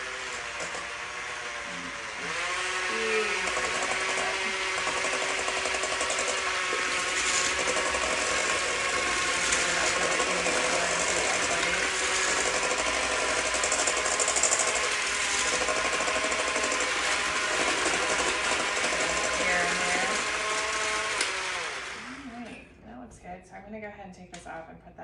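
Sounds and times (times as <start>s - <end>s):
immersion blender beating eggs: 0.0s - 22.6s.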